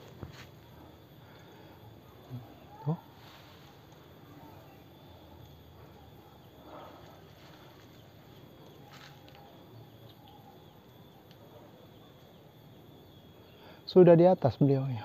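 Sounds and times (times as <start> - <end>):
insect hum: 0.0 - 15.0.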